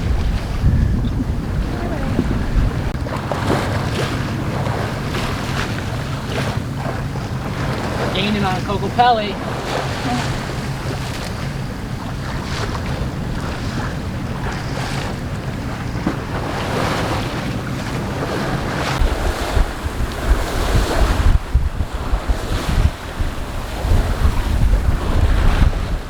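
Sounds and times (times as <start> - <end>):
water rushing along boat: 0.0 - 26.0
wind buffeting microphone: 0.0 - 26.0.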